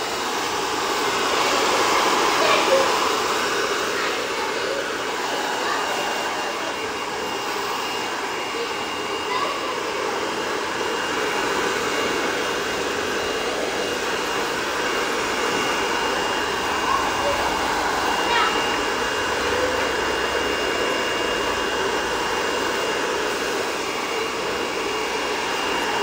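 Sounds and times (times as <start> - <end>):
hair dryer running: 0.0 - 26.0.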